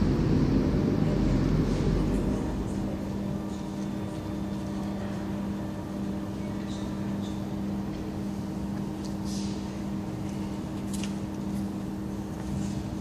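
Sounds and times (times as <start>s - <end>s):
metro station mechanical hum: 0.0s - 13.0s.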